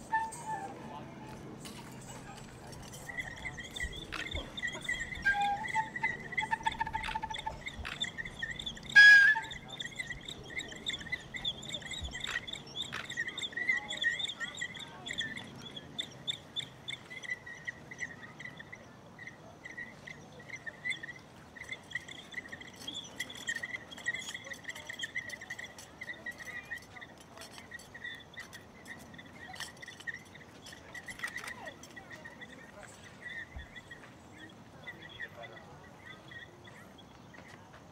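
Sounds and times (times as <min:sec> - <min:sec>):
insects chirping: 0:01.6 - 0:37.8.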